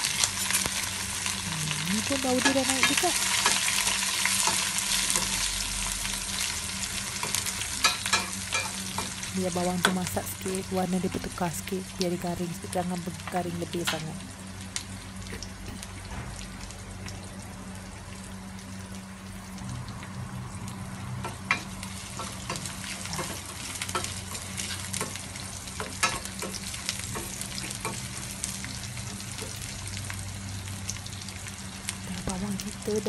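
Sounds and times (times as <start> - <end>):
low steady hum: 0.0 - 33.0
shallots sizzling in hot oil: 0.0 - 33.0.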